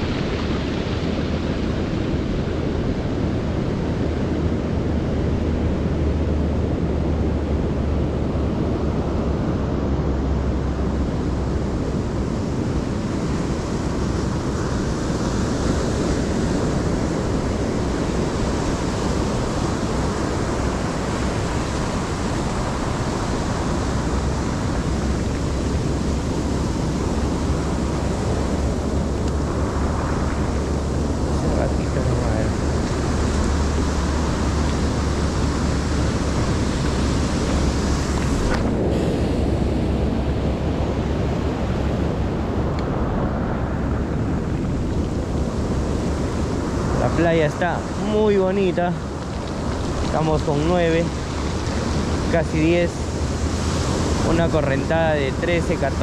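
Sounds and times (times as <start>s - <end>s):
surf washing on a beach: 0.0s - 56.0s
wind buffeting the microphone: 0.0s - 56.0s.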